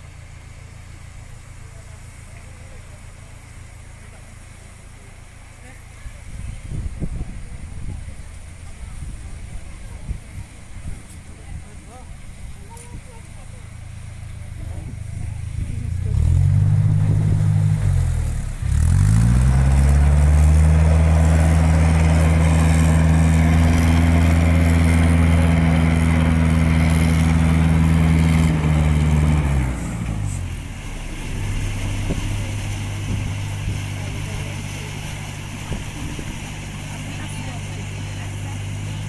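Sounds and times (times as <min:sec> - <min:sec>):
boat diesel engine: 0:00.0 - 0:39.0.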